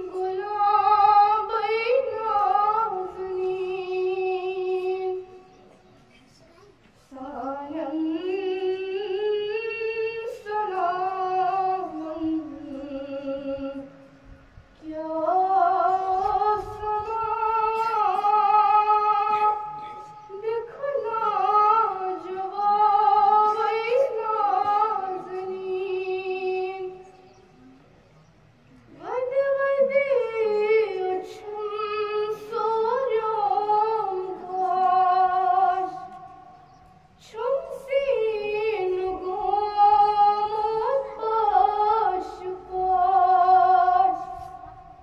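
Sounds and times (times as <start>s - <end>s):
girl singing devotional song: 0.0s - 27.3s, 28.8s - 45.0s.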